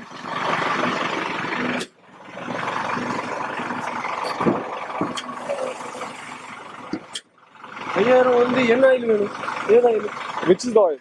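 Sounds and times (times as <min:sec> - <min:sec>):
vehicle engine noise: 0:00.0 - 0:11.0.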